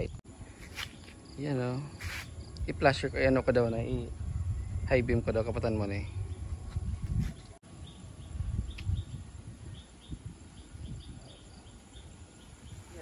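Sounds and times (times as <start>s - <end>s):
low rumble on microphone: 2.3s - 13.0s.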